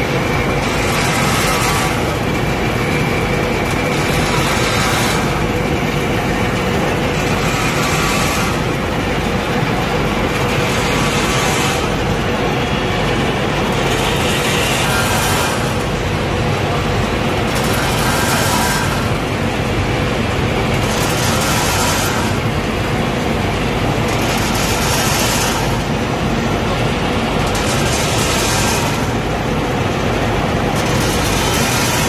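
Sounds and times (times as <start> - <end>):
conveyor motors running: 0.0 - 32.0.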